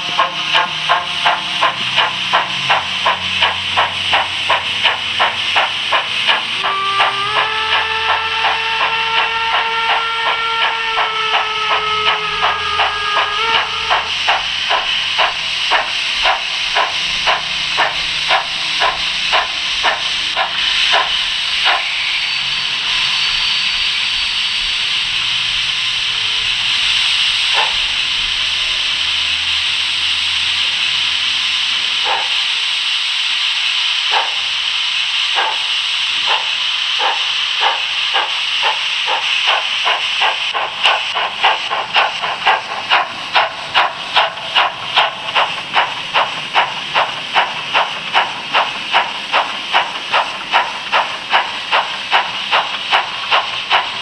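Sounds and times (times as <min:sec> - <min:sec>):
model train hiss: 0:00.0 - 0:54.0
model train rhythmic beats: 0:00.0 - 0:54.0.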